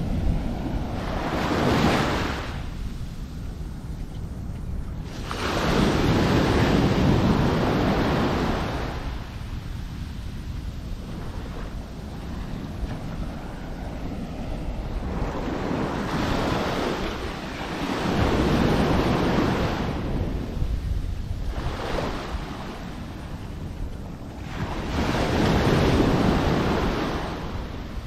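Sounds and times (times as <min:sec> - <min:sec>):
small waves breaking on beach: 0:00.0 - 0:03.6, 0:05.0 - 0:28.0
wind on microphone: 0:00.0 - 0:28.0.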